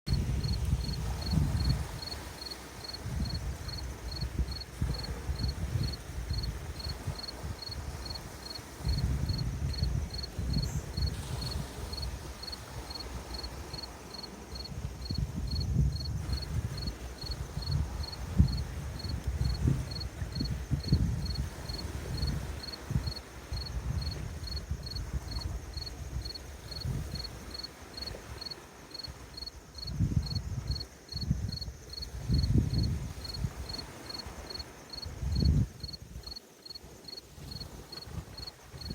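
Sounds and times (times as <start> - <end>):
high insect chirp: 0.1 - 38.9
lake waves washing on shore: 0.1 - 38.9.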